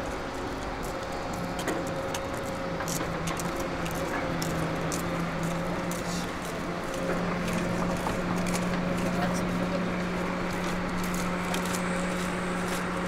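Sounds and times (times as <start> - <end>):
excavator diesel engine humming: 0.0 - 13.0.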